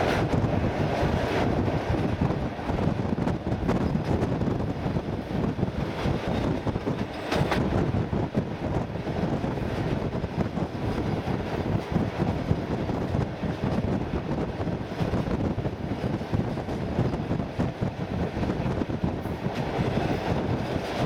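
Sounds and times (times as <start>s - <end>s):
train wheels rumbling on rails: 0.0s - 21.0s
wind buffeting microphone: 0.0s - 21.0s.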